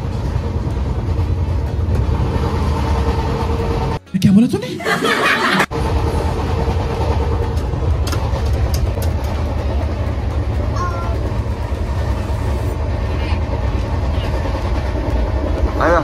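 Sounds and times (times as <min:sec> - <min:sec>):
train rumble inside coach: 0:00.0 - 0:16.0.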